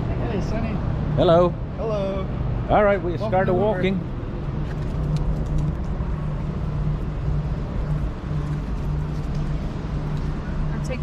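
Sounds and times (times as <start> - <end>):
low hum: 0.0 - 11.0
vehicle traffic rumble: 0.0 - 11.0.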